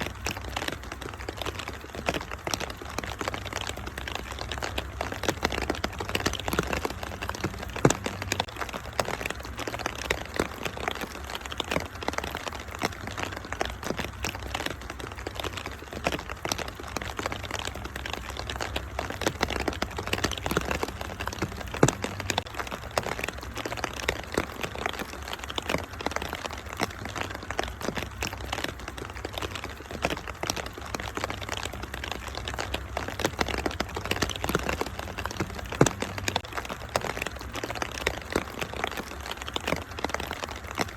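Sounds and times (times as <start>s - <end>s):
low steady rumble: 0.0s - 11.2s, 11.9s - 24.8s, 26.9s - 38.6s
rain hissing: 0.0s - 40.9s
wood fire crackling and popping: 0.0s - 40.9s.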